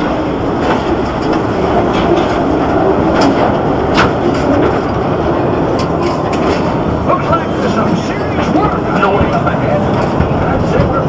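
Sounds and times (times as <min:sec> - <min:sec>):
train rumbling along track: 0:00.0 - 0:11.0
wheels clicking on rails: 0:00.0 - 0:11.0.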